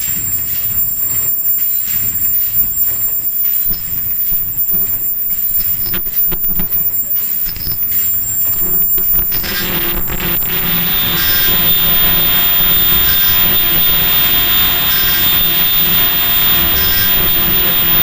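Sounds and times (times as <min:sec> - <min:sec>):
machine hiss and hum: 0:00.0 - 0:18.0
short high-pitched machine burst: 0:00.0 - 0:18.0.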